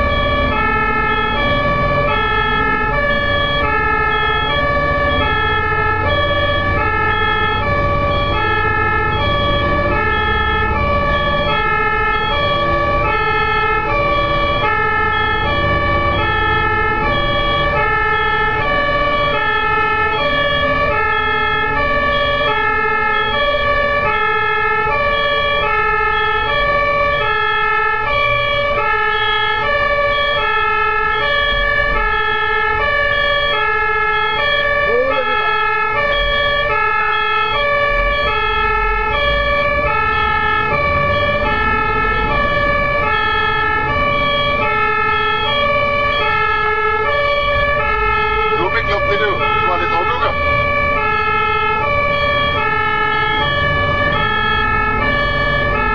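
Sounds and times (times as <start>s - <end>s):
low road rumble: 0.0s - 55.9s
two-tone ambulance siren: 0.0s - 55.9s.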